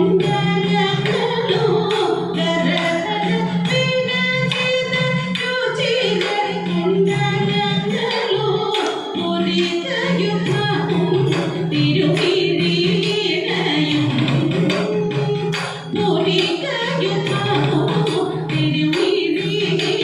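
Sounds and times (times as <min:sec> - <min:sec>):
women singing in chorus: 0:00.0 - 0:14.7, 0:15.6 - 0:20.0
instrumental accompaniment: 0:00.0 - 0:20.0
sharp percussive strikes: 0:00.1 - 0:20.0.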